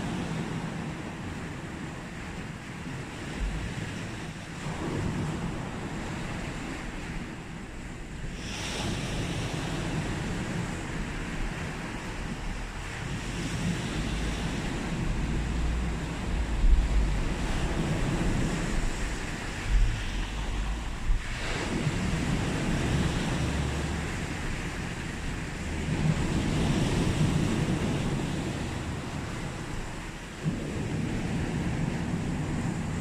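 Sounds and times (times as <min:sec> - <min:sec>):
sea waves breaking: 0:00.0 - 0:33.0
wind rumbling on microphone: 0:00.0 - 0:33.0.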